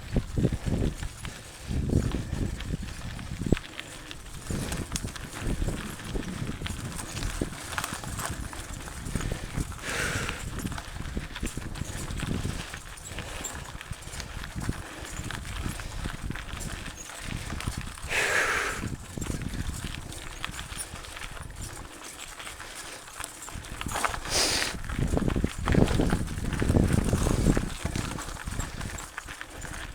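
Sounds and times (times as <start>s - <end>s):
mountain bike clattering: 0.0s - 29.9s.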